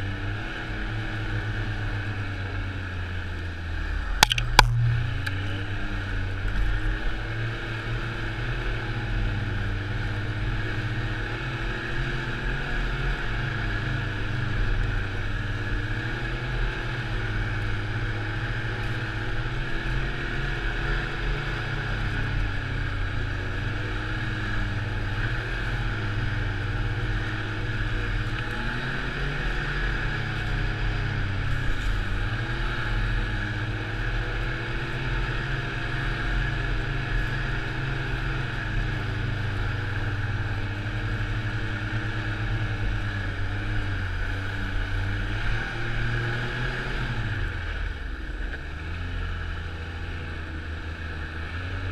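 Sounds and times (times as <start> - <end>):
snowmobile engine running: 0.0 - 51.9.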